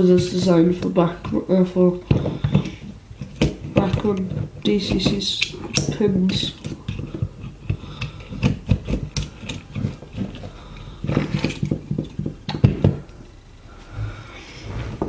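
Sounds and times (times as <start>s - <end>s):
fingers clicking and tapping pins: 0.0s - 13.3s.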